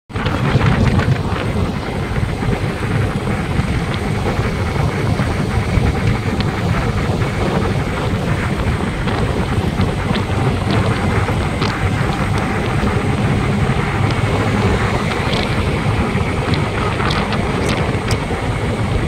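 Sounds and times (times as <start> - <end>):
vehicle road noise: 0.1 - 19.0
wind buffeting microphone: 0.1 - 19.0.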